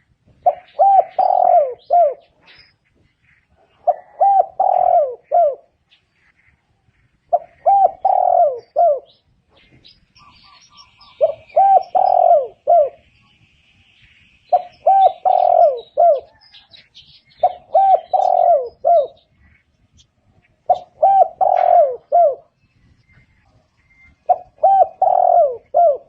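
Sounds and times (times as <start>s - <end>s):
small birds chirping: 0.0s - 26.0s
dove cooing: 0.4s - 2.7s, 3.5s - 5.8s, 7.3s - 13.1s, 14.5s - 19.6s, 20.6s - 26.0s.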